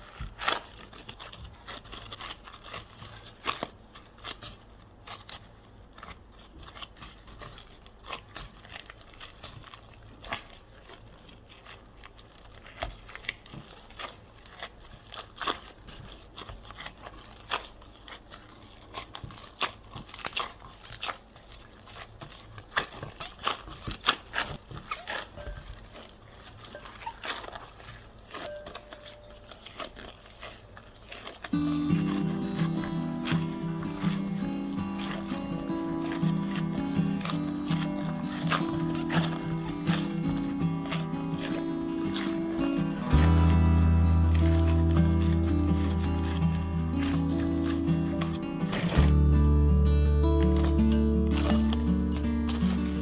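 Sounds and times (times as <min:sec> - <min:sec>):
crinkling: 0:00.0 - 0:53.0.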